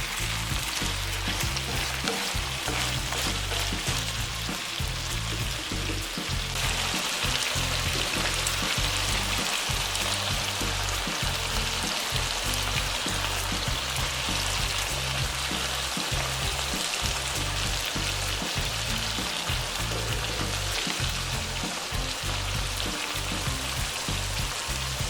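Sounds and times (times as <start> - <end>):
background music: 0.0 - 25.0
food sizzling in oil: 0.0 - 25.0.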